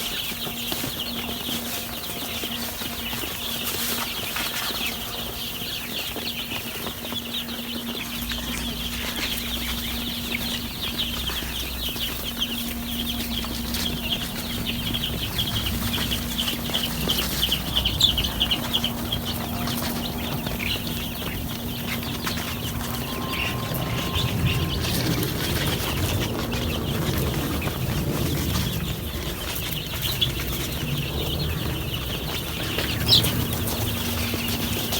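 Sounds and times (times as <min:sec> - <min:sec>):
chicks peeping: 0:00.0 - 0:34.9
steady low hum: 0:00.0 - 0:34.9.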